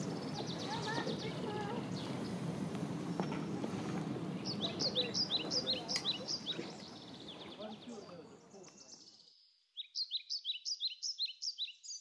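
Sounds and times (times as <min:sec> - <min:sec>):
low outdoor background noise: 0:00.0 - 0:12.0
small birds chirping: 0:00.0 - 0:12.0.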